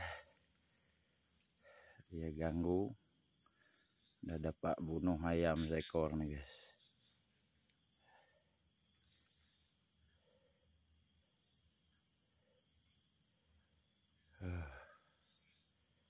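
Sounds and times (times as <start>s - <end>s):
crickets and insects buzzing: 0.0s - 16.0s.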